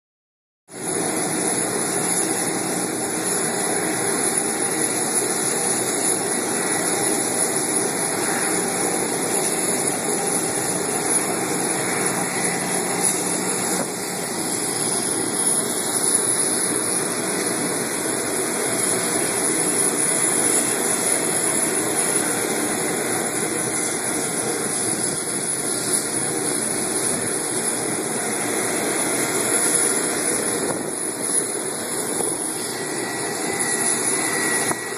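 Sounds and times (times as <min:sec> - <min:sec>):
high whine: 0:00.7 - 0:34.9
jet engines running: 0:00.7 - 0:34.9.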